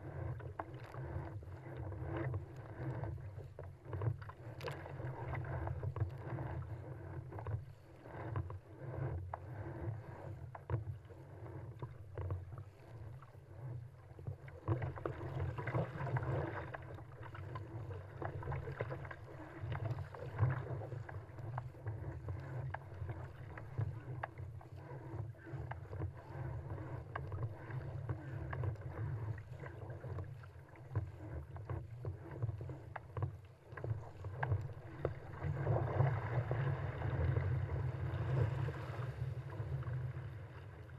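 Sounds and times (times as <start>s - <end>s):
paddle stroke splashes: 0.0s - 40.9s
water rushing along a boat hull: 0.0s - 40.9s.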